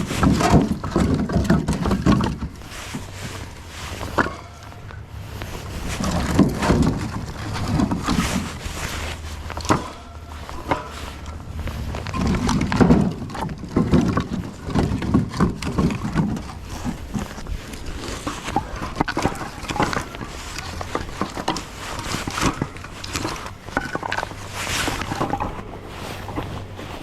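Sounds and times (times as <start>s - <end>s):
firewood knocking and clattering: 0.0s - 26.8s
low steady hum: 0.0s - 27.0s.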